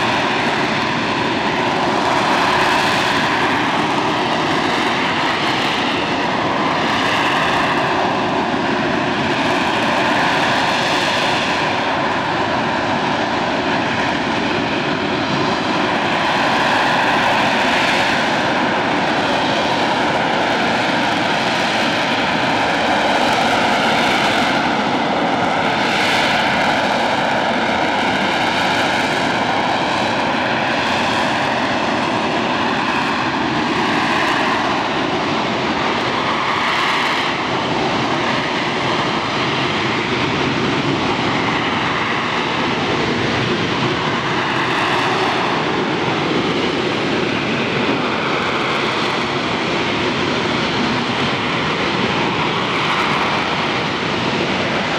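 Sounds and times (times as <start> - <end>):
jet roar with high whine: 0.0 - 54.9.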